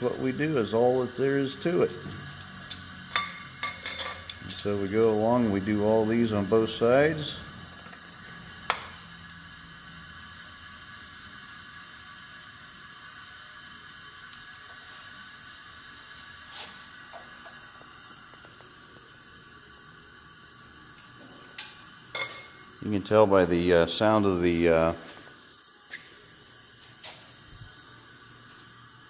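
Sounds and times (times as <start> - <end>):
compressed air hissing: 0.0 - 29.0.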